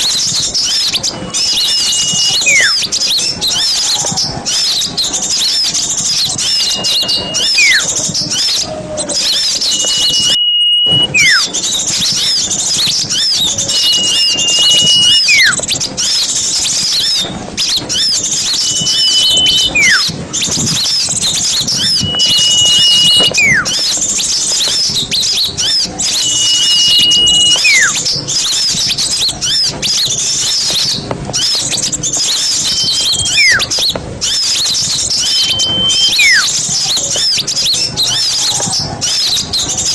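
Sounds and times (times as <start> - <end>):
small birds chirping: 0.0 - 39.9
whistled bird call: 0.0 - 39.9.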